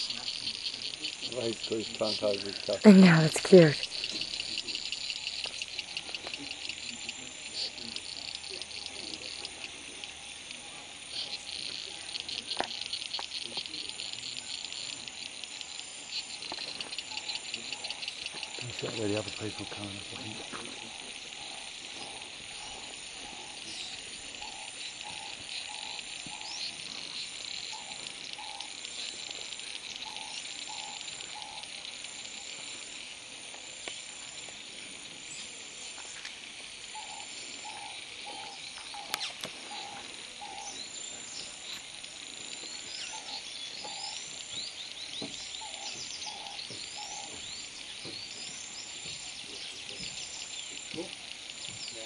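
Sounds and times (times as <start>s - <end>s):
insects whining: 0.0s - 52.0s
small birds chirping: 0.0s - 52.0s.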